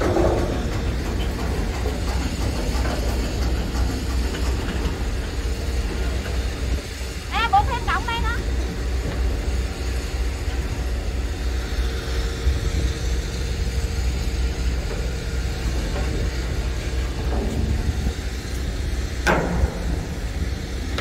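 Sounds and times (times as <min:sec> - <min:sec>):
engine rumbling: 0:00.0 - 0:21.0.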